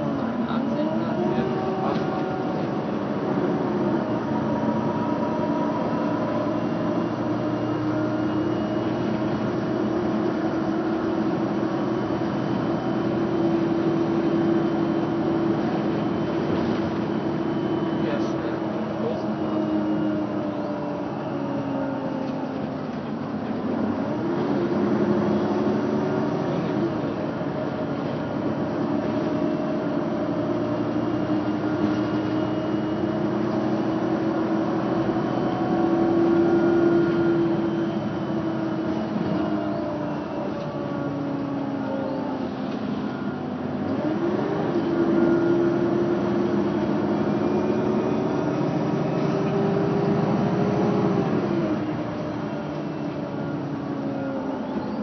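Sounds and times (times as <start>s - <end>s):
bus engine pulling under load: 0.0s - 55.0s
road and cabin noise: 0.0s - 55.0s.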